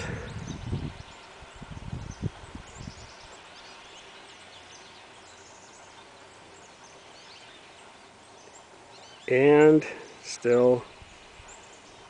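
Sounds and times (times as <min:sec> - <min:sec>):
small birds chirping: 0:00.0 - 0:12.0
steady low hiss: 0:00.0 - 0:12.0.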